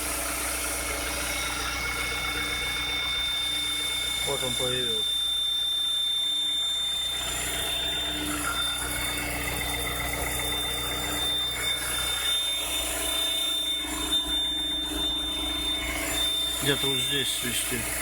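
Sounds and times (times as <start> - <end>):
high-pitched engine whistle: 0.1 - 18.0.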